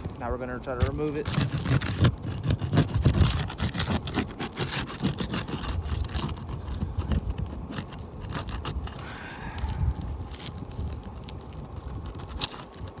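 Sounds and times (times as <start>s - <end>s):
shingle scraping and crackling: 0.0s - 13.0s.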